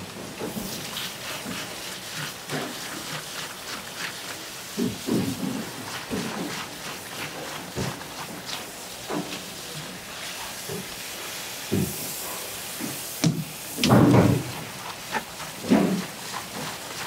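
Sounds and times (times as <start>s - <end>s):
tap water splashing: 0.4s - 11.0s, 11.7s - 12.1s, 12.8s - 17.0s
hands rubbing seafood: 0.5s - 12.1s, 12.8s - 17.0s.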